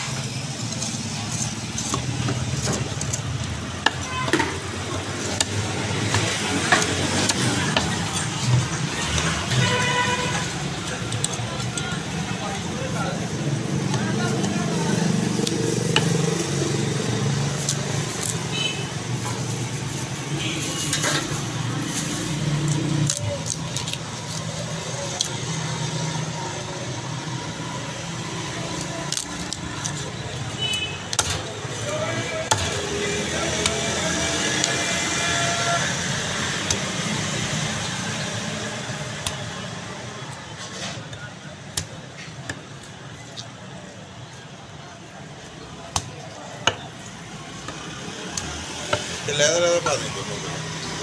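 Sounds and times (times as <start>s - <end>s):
street traffic hum: 0.0s - 51.0s.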